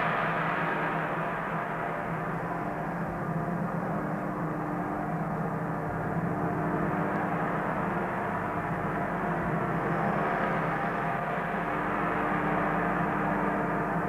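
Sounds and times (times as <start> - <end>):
gong droning: 0.0 - 14.0.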